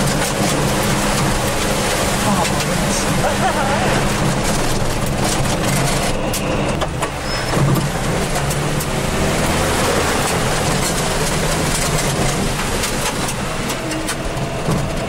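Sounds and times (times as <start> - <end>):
mud spattering against vehicle: 0.0 - 15.0
vehicle engine running: 0.0 - 15.0.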